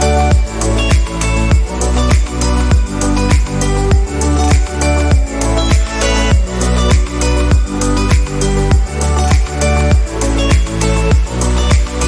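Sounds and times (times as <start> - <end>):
kick drum and bass thump: 0.3 - 12.0.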